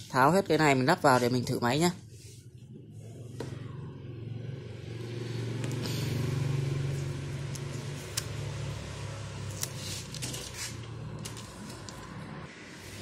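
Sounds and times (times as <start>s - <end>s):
vehicle engine hum: 2.0s - 13.0s.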